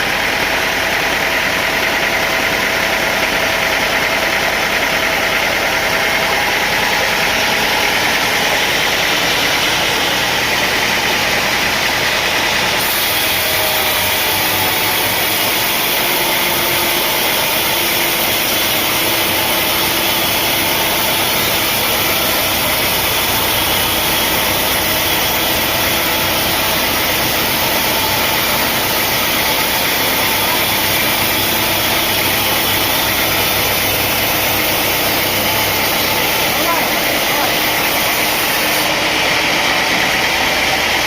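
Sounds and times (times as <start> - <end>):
heavy machinery running: 0.0 - 41.0.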